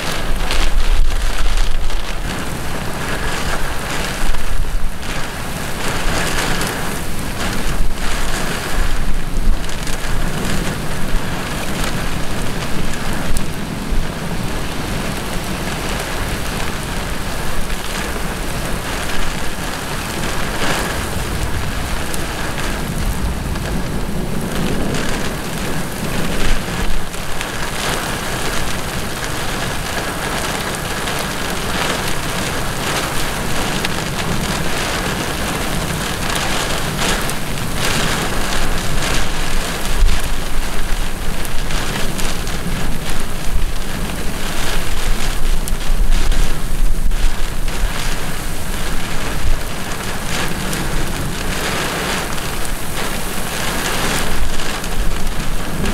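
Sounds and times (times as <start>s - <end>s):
heavy rain pouring: 0.0s - 55.9s
low thunder rumbles: 0.0s - 55.9s.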